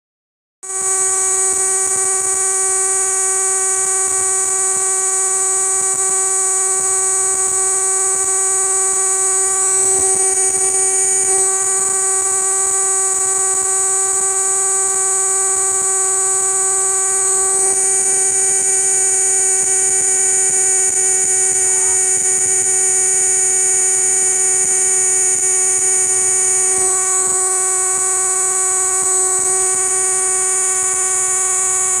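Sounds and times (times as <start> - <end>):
cicada buzzing: 0.7 - 19.8, 24.3 - 32.0.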